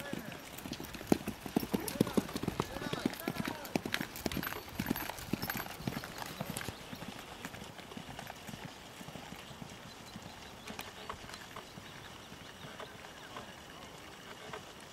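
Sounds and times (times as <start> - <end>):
horse hoofbeats on grass: 0.0 - 14.9.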